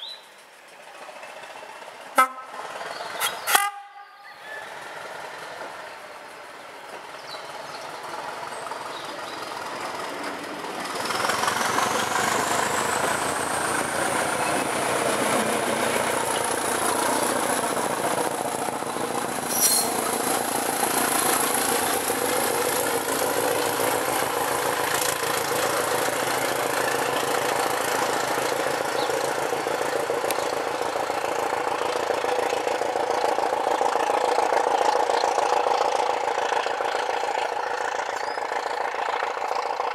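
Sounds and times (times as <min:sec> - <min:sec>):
diesel train engine throbbing: 0:00.0 - 0:39.9.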